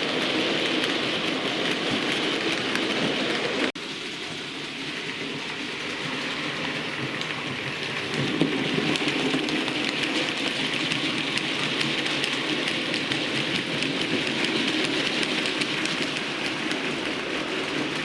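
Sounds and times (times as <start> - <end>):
model train rattling on track: 0.0 - 18.0.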